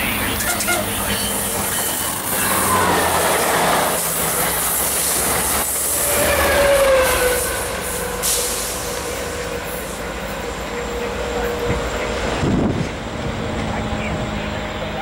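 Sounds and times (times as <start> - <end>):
diesel locomotive engine running: 0.0 - 15.0
train rolling past: 0.0 - 15.0.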